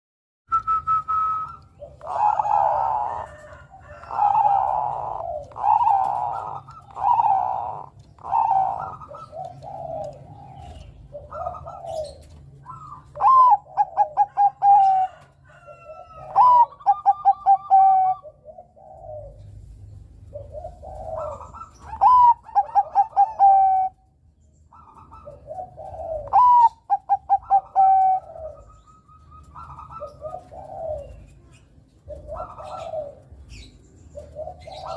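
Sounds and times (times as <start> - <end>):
dove cooing song: 0.5 - 34.9.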